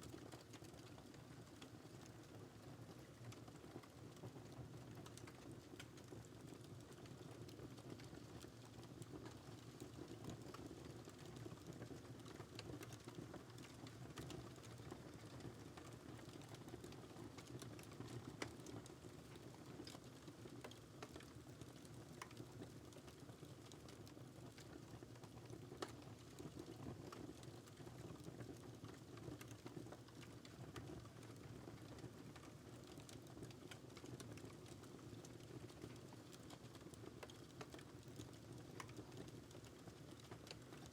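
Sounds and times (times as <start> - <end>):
fire crackling in a fireplace: 0.0 - 40.9.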